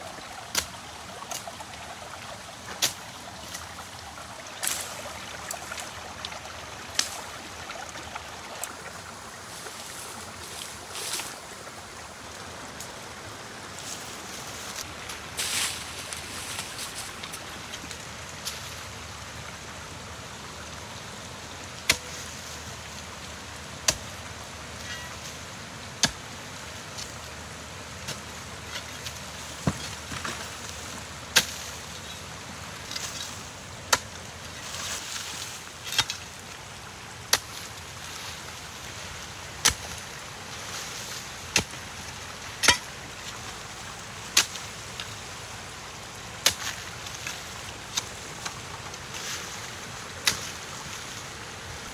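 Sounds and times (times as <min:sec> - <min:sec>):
steady rushing hiss: 0:00.0 - 0:51.9.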